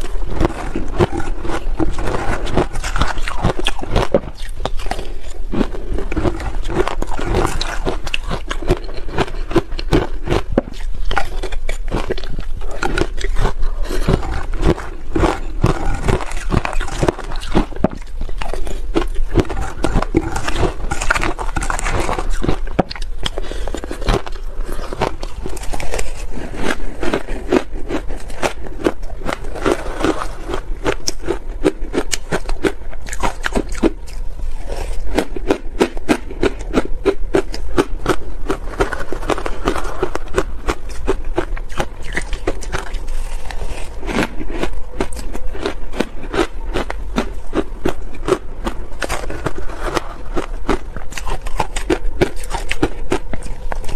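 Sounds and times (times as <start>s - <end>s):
crunching shaved ice: 0.0s - 53.9s.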